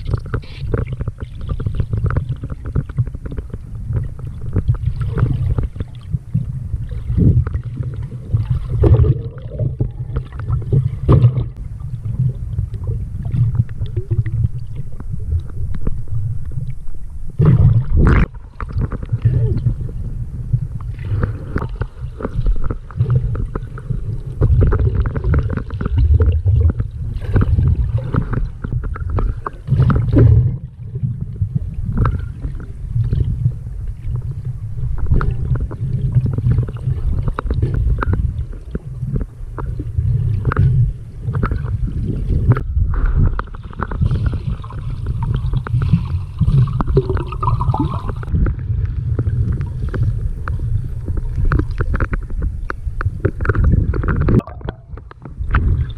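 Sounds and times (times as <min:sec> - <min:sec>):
muffled underwater rumble: 0:00.0 - 0:55.9.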